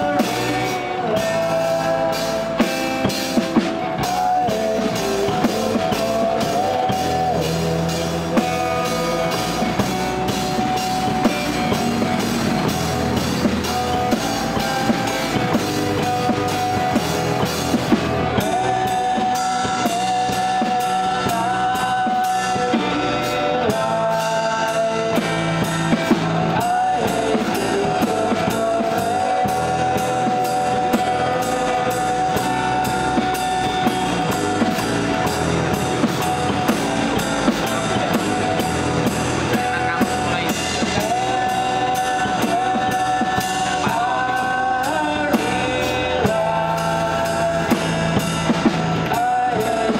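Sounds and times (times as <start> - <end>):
acoustic guitars strummed: 0.0 - 49.9
drum kit and cymbal beat: 0.0 - 49.9
man singing: 0.0 - 49.9.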